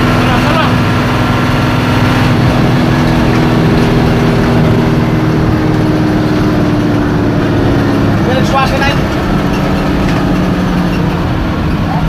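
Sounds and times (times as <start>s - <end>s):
bus engine running: 0.0s - 12.0s
road and wind rumble: 0.0s - 12.0s.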